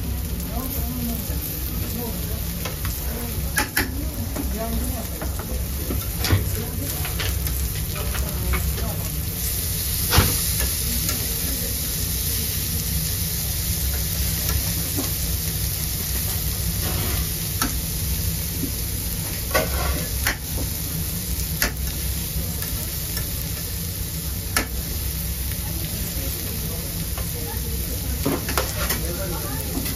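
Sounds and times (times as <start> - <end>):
fish sizzling on grill: 0.0 - 29.9.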